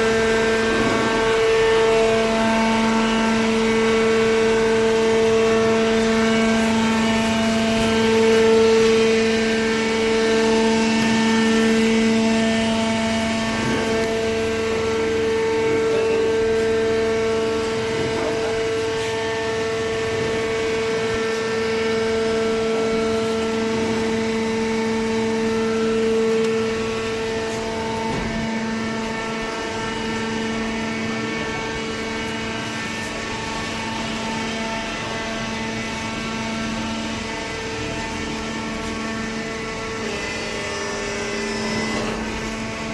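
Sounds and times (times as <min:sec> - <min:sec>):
hydraulic unit humming: 0:00.0 - 0:42.9.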